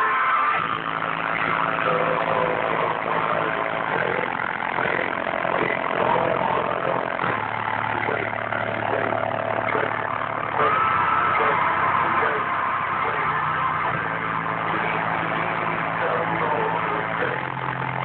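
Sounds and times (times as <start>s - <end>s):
bass-heavy rap music: 0.0s - 18.0s.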